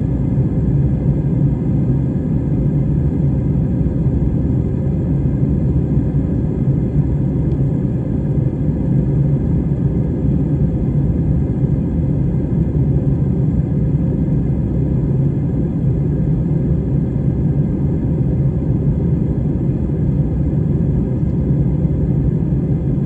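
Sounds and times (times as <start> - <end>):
jet engine cabin rumble: 0.0 - 23.0.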